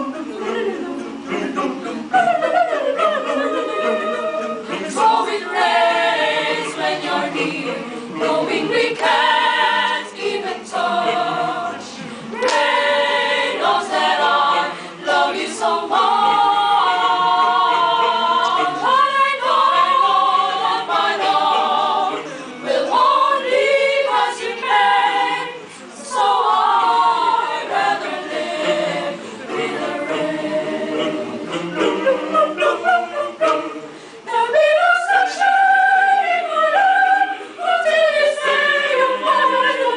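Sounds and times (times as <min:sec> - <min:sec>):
mixed choir singing a cappella: 0:00.0 - 0:39.9.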